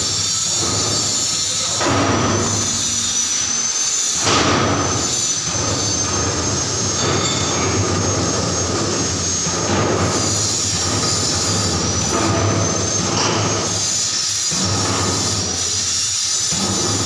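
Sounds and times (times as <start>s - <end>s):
cement mixer motors humming: 0.0s - 17.0s
high-pitched metallic squeal: 0.0s - 17.0s.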